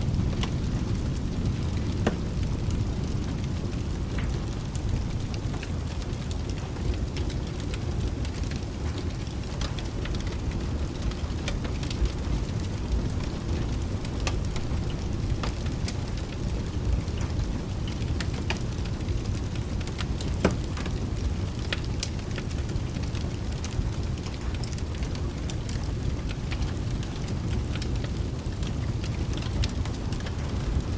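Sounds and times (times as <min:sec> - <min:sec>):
fireplace crackling and popping: 0:00.0 - 0:30.9
low rumble of rain: 0:00.0 - 0:30.9.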